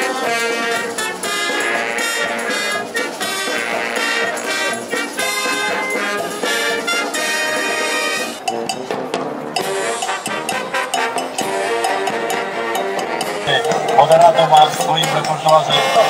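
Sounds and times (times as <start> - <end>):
marching band playing: 0.0 - 16.0
sharp drum beats: 0.0 - 16.0.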